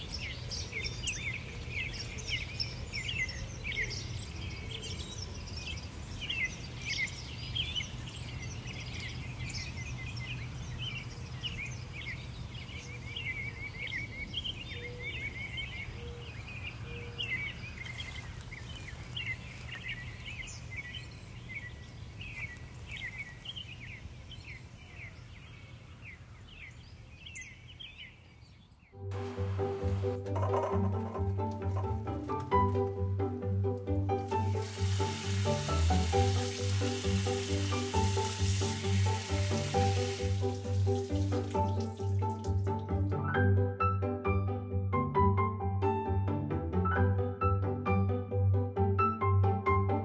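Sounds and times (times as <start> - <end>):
small birds chirping and singing: 0.0 - 43.7.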